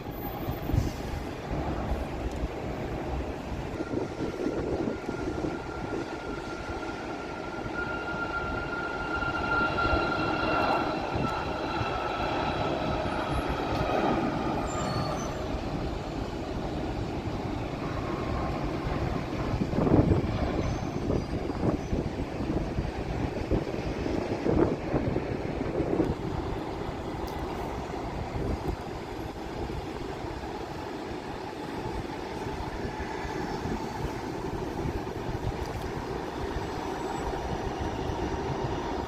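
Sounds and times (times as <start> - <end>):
jet engines passing: 0.0 - 39.0.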